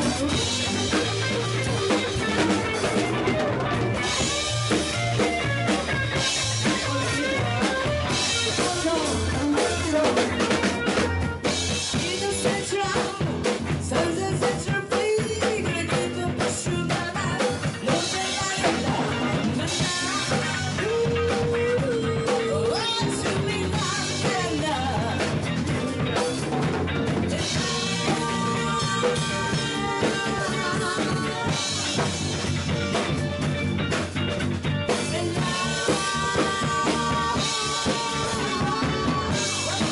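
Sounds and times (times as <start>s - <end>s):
woman singing: 0.0s - 3.0s, 6.1s - 11.0s, 11.8s - 32.4s, 34.9s - 39.9s
drum kit: 0.0s - 39.9s
electric bass: 0.0s - 39.9s
electric guitar: 0.0s - 39.9s.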